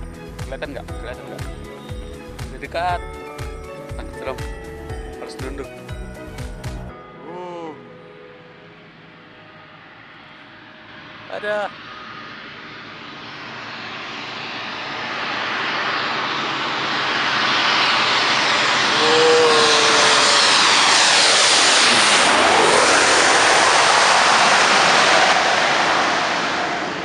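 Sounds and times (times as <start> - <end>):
airplane passing low overhead: 0.0 - 7.0, 7.7 - 27.0.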